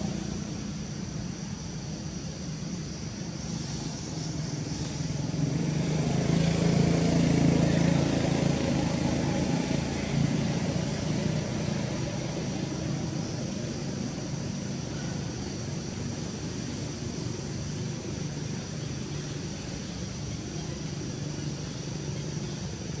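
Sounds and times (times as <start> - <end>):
passing vehicle engine drone: 3.8 - 23.0.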